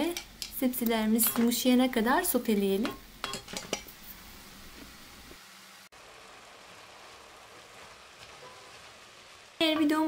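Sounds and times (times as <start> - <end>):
meat and vegetables sizzling: 0.0 - 10.0.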